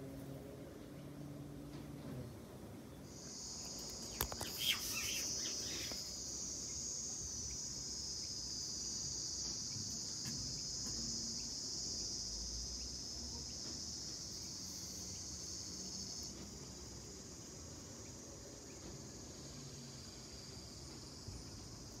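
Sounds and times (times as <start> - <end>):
cricket trilling: 3.0 - 22.0.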